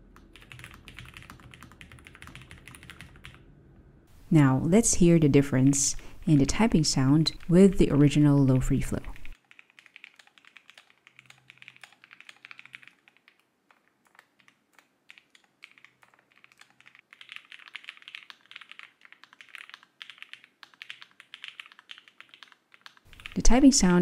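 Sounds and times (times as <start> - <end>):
mechanical keyboard typing: 0.2 - 3.4, 6.3 - 23.7.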